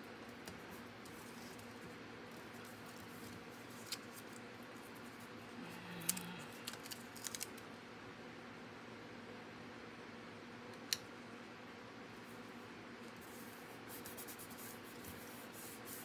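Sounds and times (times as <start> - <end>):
faint room hiss: 0.0 - 16.0.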